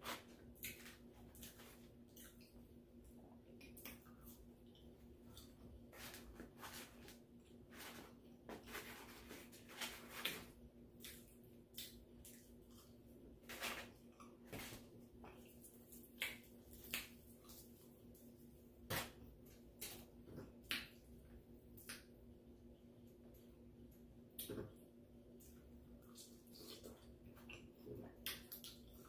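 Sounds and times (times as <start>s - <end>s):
person chewing food: 0.0s - 18.3s, 23.3s - 29.0s
low steady hum: 0.0s - 29.0s.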